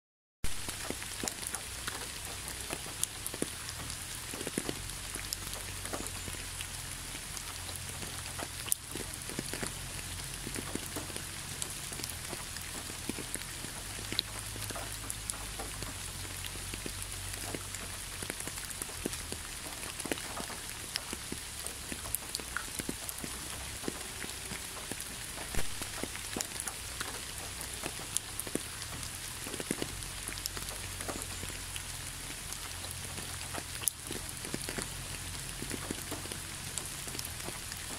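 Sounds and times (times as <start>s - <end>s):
rain on leaves: 0.4s - 37.9s
raindrop hits: 0.4s - 37.9s.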